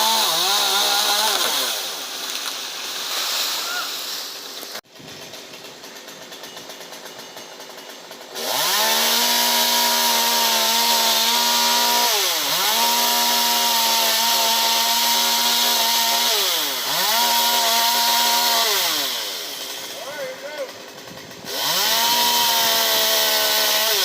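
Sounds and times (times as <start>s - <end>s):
chainsaw engine whining: 0.0s - 24.0s.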